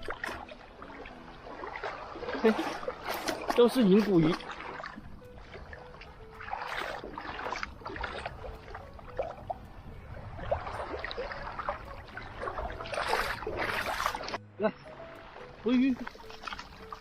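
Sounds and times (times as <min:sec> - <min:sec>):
shallow water splashing: 0:00.0 - 0:17.0.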